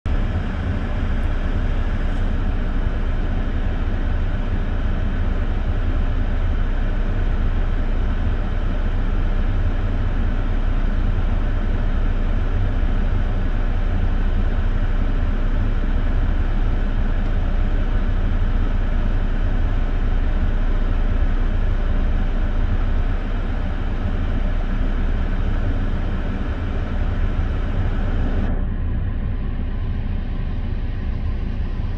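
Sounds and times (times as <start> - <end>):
road traffic rumble: 0.1 - 31.9.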